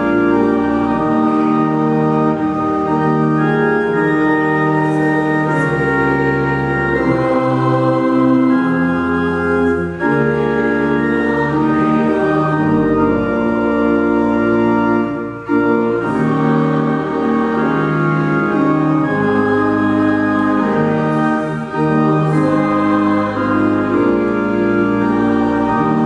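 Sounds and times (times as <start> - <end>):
church organ chords: 0.0 - 26.0
congregation singing: 0.0 - 26.0.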